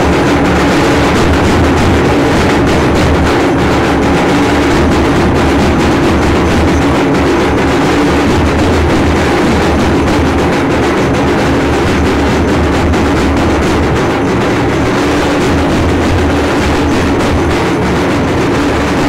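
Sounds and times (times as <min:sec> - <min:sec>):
drums: 0:00.0 - 0:19.0
ritual bells clattering: 0:00.0 - 0:19.0.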